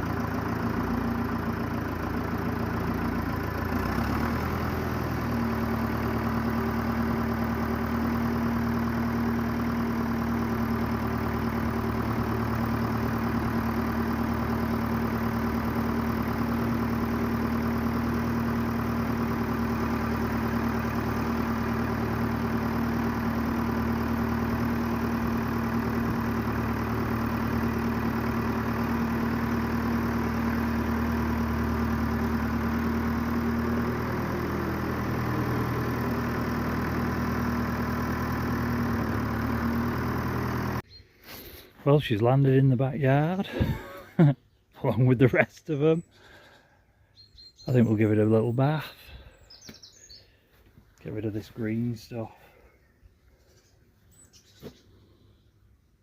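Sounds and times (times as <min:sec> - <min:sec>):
engine running steadily: 0:00.0 - 0:45.0, 0:45.8 - 0:55.4.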